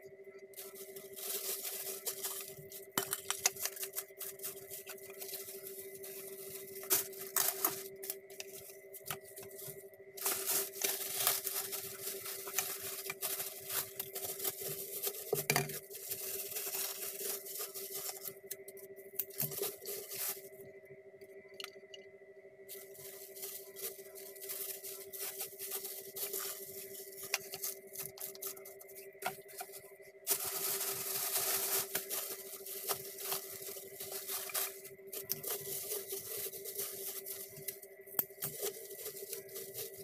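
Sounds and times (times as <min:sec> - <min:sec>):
steady hum: 0:00.0 - 0:40.0
plastic wrapping tearing and crinkling: 0:00.6 - 0:18.6, 0:19.2 - 0:20.5, 0:22.7 - 0:40.0.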